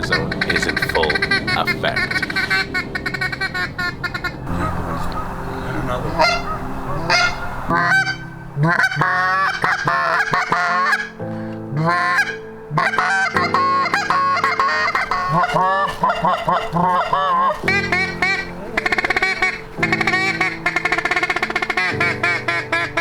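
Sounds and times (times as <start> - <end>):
goose call honks and clucks: 0.0 - 23.0.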